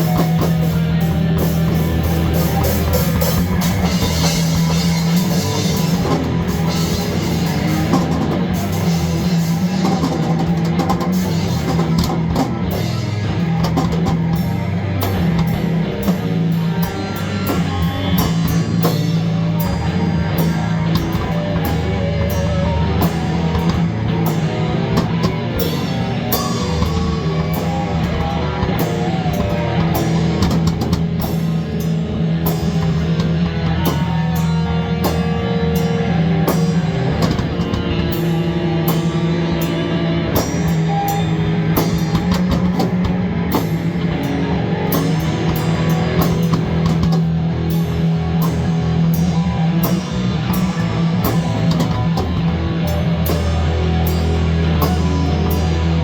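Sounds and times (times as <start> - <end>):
drum kit beating: 0.0 - 56.0
guitar: 0.0 - 56.0
loud rock music: 0.0 - 56.0.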